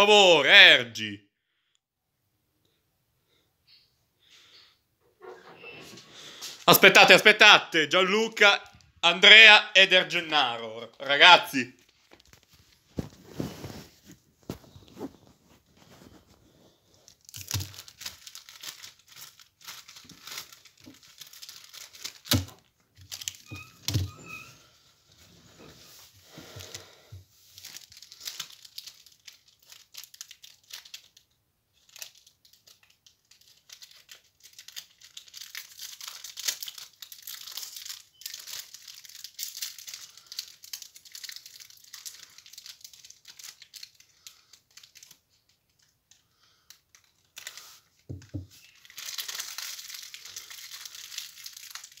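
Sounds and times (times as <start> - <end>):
crinkling and rustling: 10.1 - 52.0.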